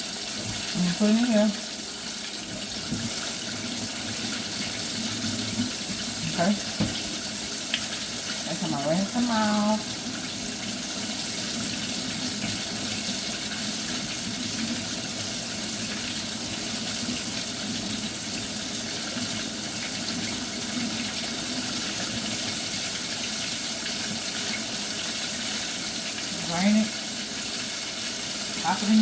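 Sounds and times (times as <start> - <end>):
kitchen tap running into sink: 0.0 - 29.0.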